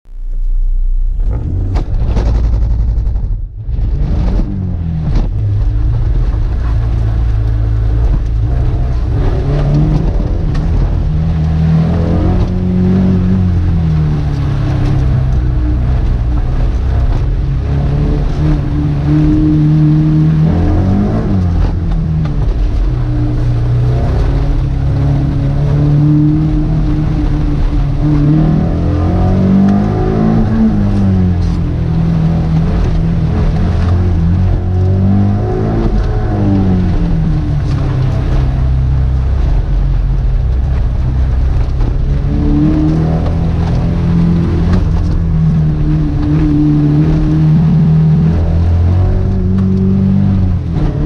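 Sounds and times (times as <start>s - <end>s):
car engine revving: 0.0s - 51.0s.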